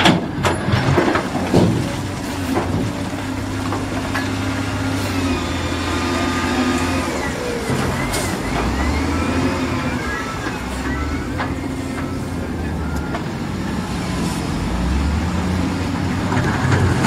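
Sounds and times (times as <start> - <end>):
diesel construction machinery running: 0.0 - 17.0.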